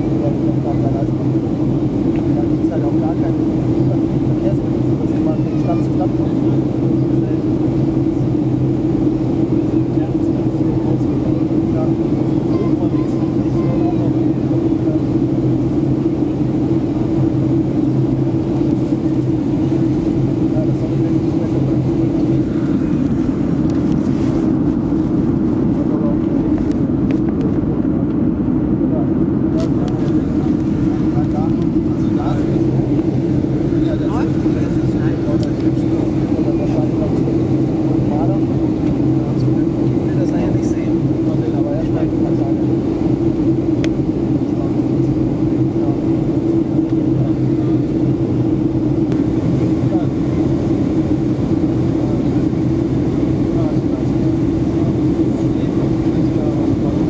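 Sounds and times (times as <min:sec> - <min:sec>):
airplane cabin engine drone: 0:00.0 - 0:57.0
rushing airflow: 0:00.0 - 0:57.0.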